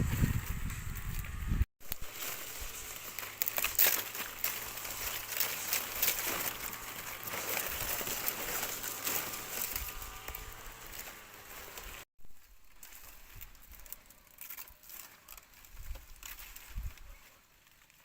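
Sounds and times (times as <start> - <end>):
crackling and rustling: 0.0 - 18.0.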